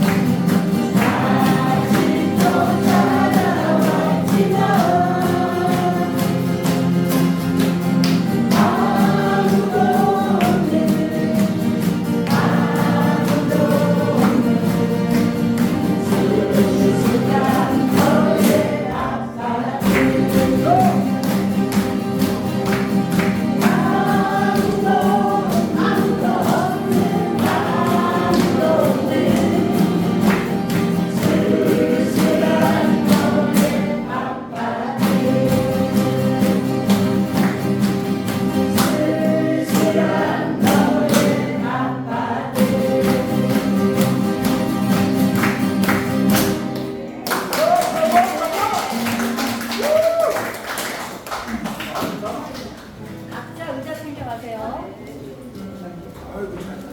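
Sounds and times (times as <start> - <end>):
group of voices singing: 0.0 - 46.8
acoustic guitar: 0.0 - 56.9.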